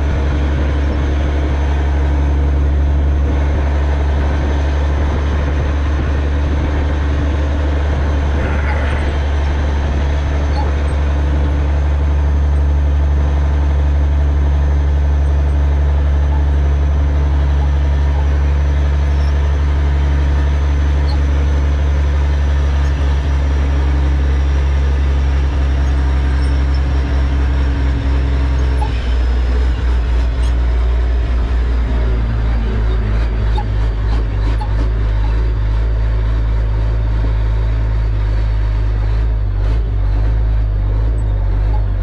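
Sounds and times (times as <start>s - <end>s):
truck diesel engine running: 0.0s - 42.0s.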